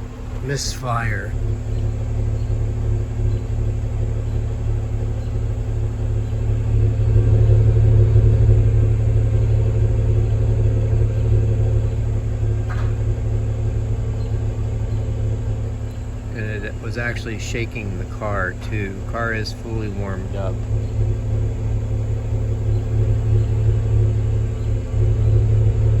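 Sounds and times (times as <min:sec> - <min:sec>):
car engine exhaust rumble: 0:00.0 - 0:26.0.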